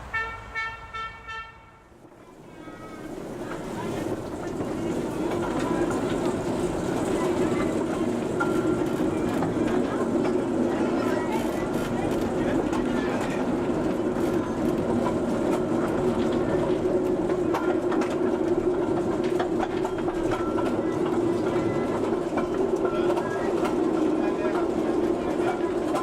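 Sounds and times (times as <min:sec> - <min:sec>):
small train rumbling on track: 0:00.0 - 0:26.0
wheels clicking over rails: 0:02.1 - 0:26.0.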